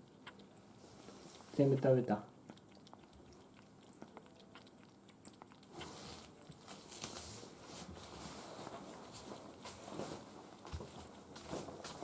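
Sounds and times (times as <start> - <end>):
kitten crunching dry food: 0.0 - 12.0.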